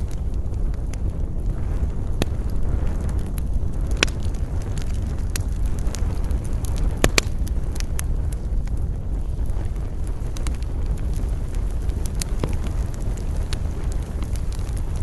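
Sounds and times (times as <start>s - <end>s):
campfire crackling and popping: 0.0s - 15.0s
low rumble of wind: 0.0s - 15.0s.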